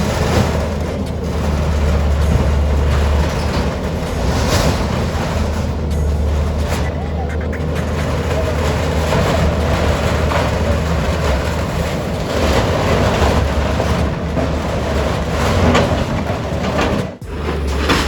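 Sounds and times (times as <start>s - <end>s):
low engine rumble: 0.0s - 18.0s
noisy wash: 0.0s - 18.0s.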